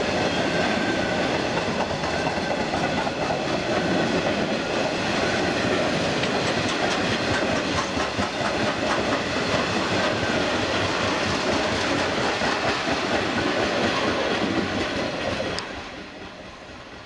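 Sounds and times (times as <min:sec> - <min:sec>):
freight train wheels clattering: 0:00.0 - 0:16.7.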